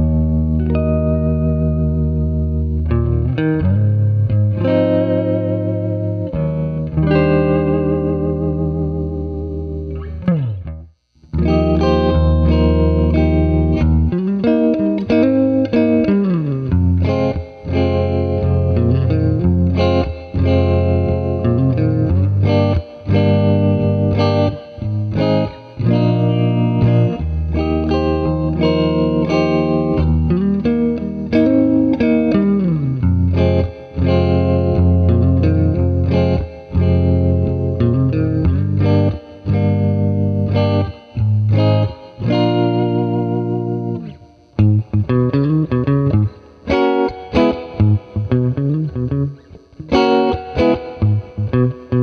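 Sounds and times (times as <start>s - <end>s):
electric guitar with tremolo: 0.0s - 52.0s.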